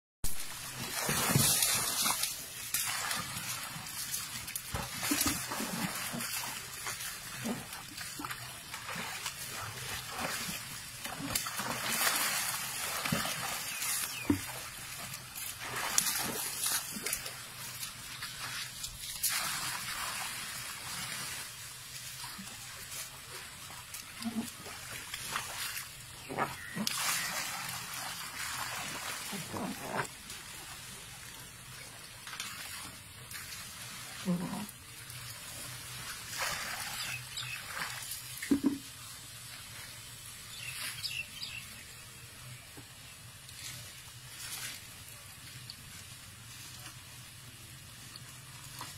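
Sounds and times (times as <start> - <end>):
water splashing and dripping: 0.3 - 42.0
steady outdoor hiss: 0.4 - 48.9.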